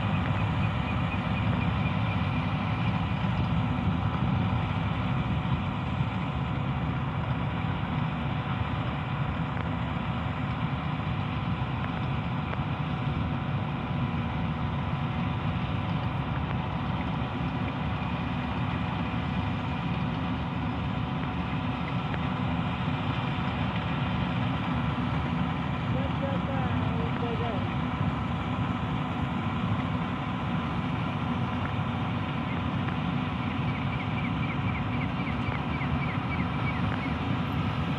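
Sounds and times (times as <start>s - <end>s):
diesel engine drone: 0.0s - 37.9s
steady machine whine: 0.0s - 37.9s.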